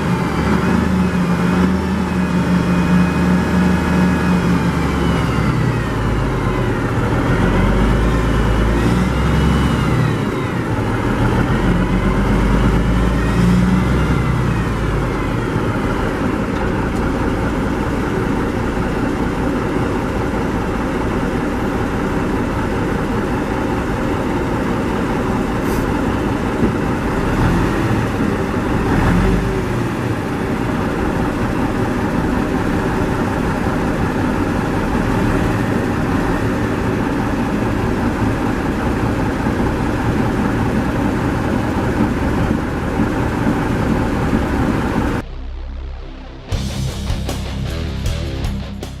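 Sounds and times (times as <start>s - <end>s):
diesel truck engine revving: 0.0s - 49.0s.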